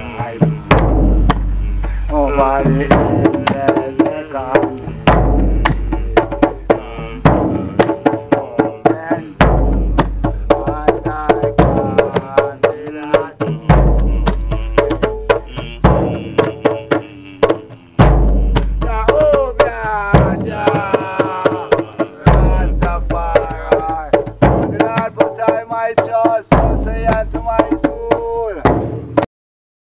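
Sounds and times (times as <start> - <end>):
deep bass drum booming: 0.0 - 29.2
hand drum quick sharp strokes: 0.0 - 29.3.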